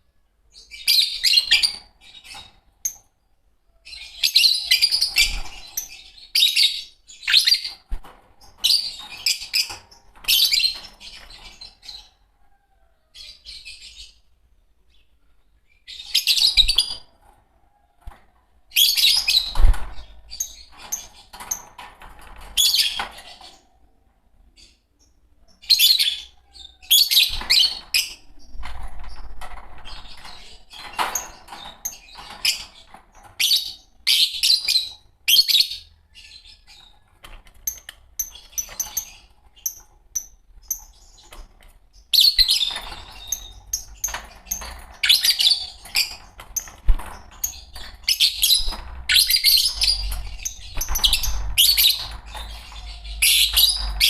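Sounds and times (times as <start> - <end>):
lovebirds chirping: 0.5 - 17.2, 24.5 - 54.0.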